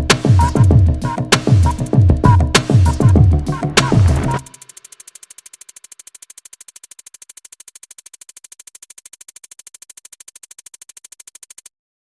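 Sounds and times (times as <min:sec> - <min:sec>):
rapid electronic clicks: 0:00.0 - 0:11.8.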